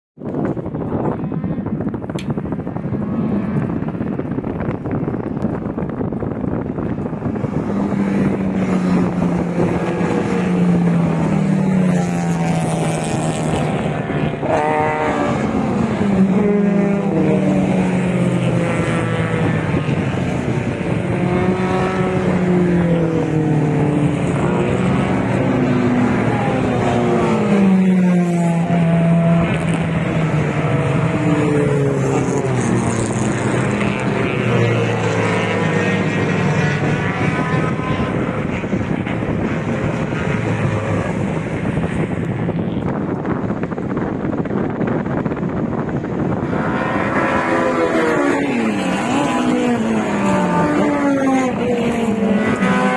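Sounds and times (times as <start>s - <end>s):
racing car engines passing: 0.3s - 52.9s.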